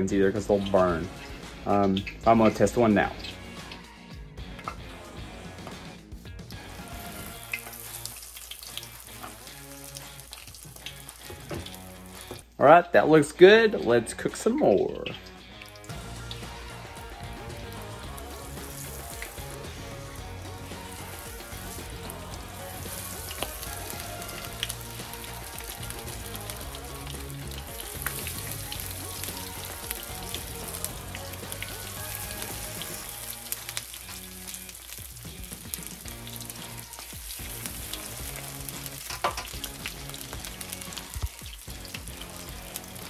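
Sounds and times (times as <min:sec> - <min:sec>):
oil popping and crackling: 0:01.7 - 0:03.8, 0:06.3 - 0:12.5, 0:14.2 - 0:43.0
food sizzling in hot oil: 0:06.4 - 0:12.4, 0:14.3 - 0:43.0.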